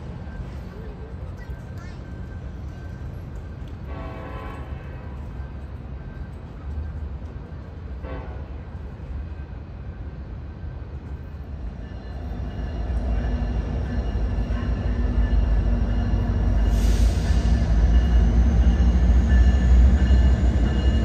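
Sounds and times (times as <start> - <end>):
train approaching with engine hum: 0.0 - 21.0.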